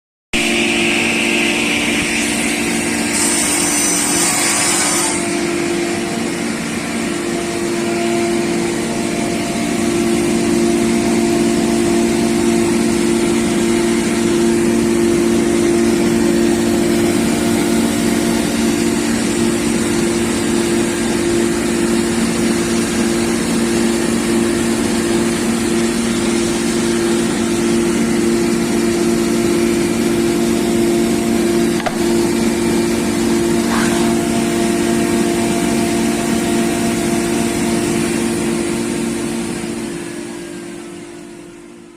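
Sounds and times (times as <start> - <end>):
panel saw machine hum: 0.4 - 41.9.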